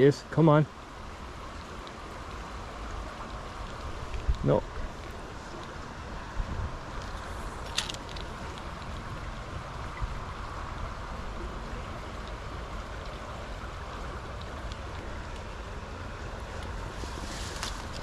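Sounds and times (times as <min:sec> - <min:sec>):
stream flowing over stones: 0:00.0 - 0:18.0.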